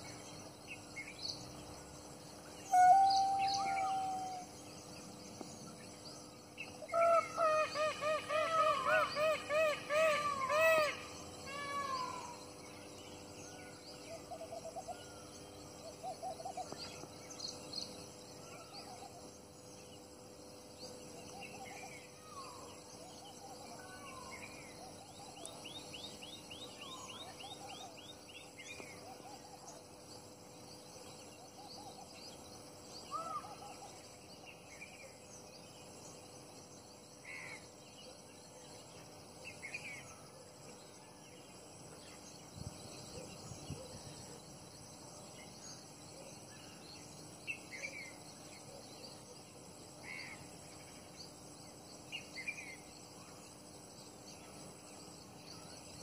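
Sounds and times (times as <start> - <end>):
faint hiss and hum: 0.0 - 56.0.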